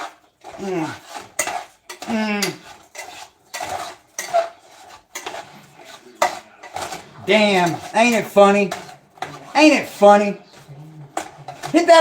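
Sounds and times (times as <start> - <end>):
utensils clinking against dishes: 0.0 - 12.0.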